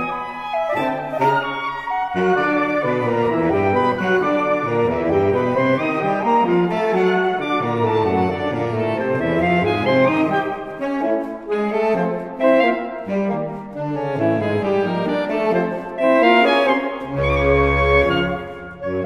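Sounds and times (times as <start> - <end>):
saxophone quartet playing: 0.0 - 19.0.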